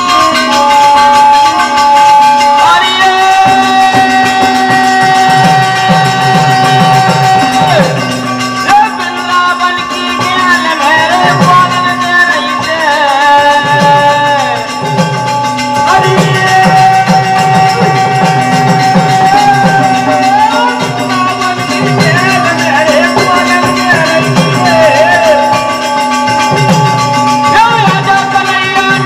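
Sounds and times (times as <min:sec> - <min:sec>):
harmonium: 0:00.0 - 0:29.0
person singing wavering vocals: 0:00.0 - 0:29.0.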